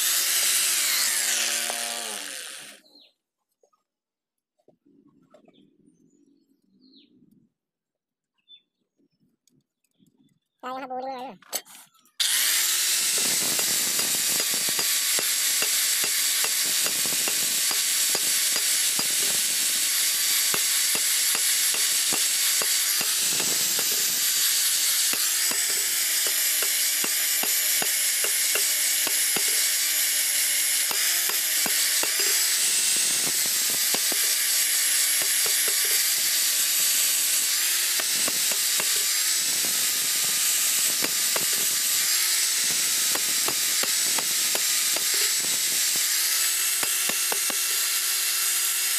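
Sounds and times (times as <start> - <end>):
angle grinder grinding steel: 0.0 - 2.8, 12.2 - 48.9.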